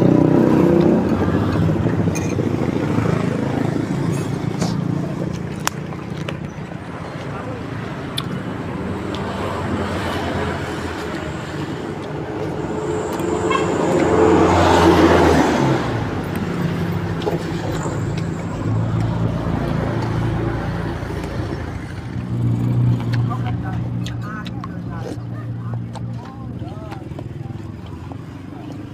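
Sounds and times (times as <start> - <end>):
vehicle passing close by: 0.0 - 25.9
low traffic engine hum: 0.0 - 28.9.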